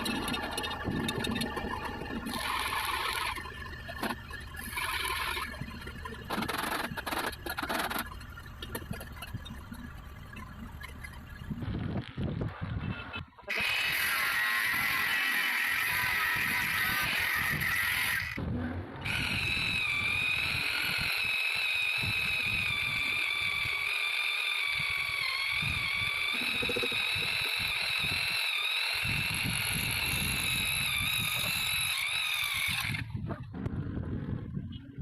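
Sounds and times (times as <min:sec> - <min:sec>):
power tool motor whine: 0:00.0 - 0:10.0, 0:10.8 - 0:33.2.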